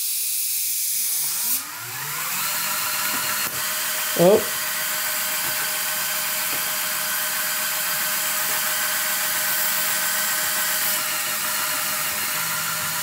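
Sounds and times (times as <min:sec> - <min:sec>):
toy motor driving air pumps: 0:00.0 - 0:13.0.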